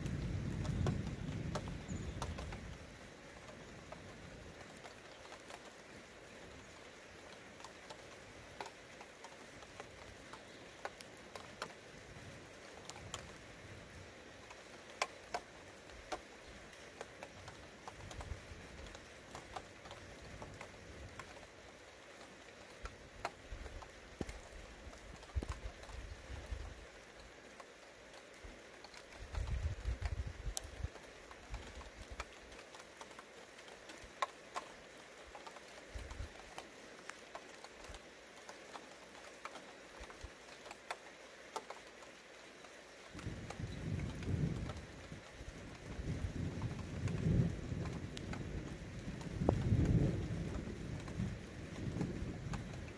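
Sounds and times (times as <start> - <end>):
light rain pattering: 0.0 - 52.9.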